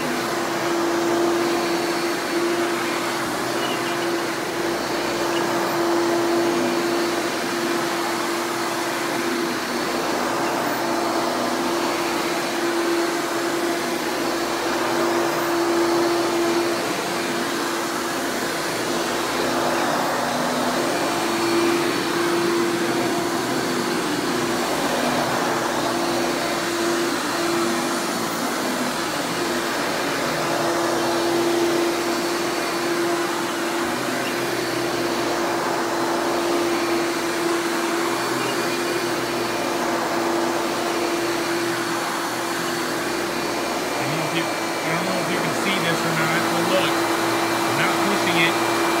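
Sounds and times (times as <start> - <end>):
vacuum cleaner running on carpet: 0.0 - 49.0.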